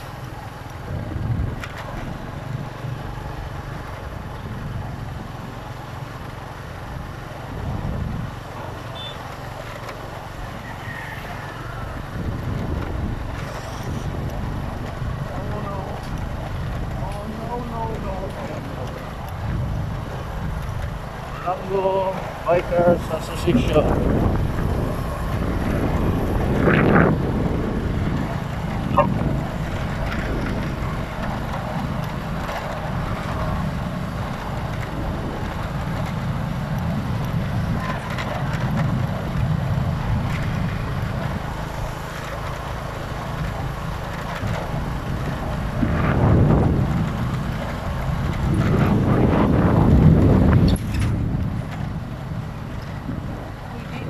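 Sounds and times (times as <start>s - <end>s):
motorcycle passing: 0.0s - 54.0s
vehicle engine rumble: 0.0s - 54.0s
wind rush on microphone: 0.0s - 54.0s.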